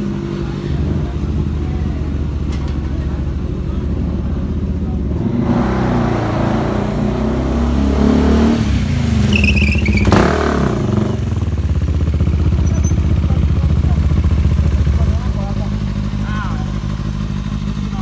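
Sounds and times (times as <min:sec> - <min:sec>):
motorcycle engine idling: 0:00.0 - 0:05.3, 0:08.8 - 0:18.0.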